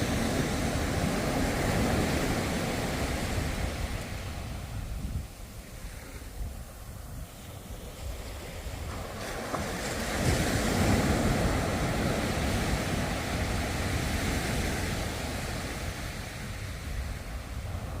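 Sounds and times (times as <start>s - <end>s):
ocean wave breaking: 0.0s - 18.0s.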